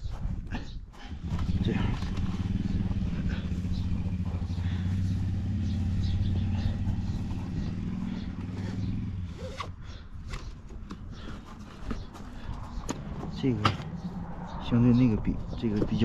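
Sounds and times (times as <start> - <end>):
vehicle engine humming: 1.0 - 16.0.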